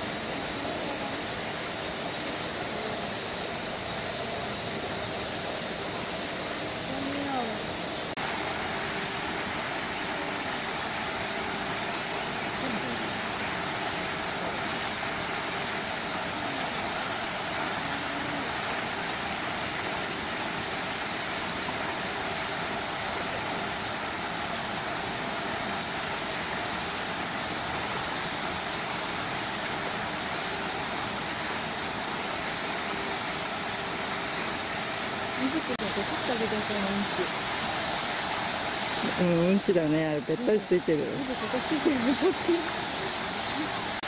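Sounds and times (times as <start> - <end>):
high-pitched hiss: 0.0 - 44.0.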